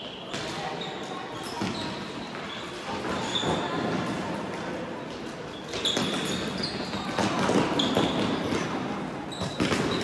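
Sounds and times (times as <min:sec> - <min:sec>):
sneaker squeaks on hall floor: 0:00.0 - 0:04.2, 0:05.1 - 0:10.0.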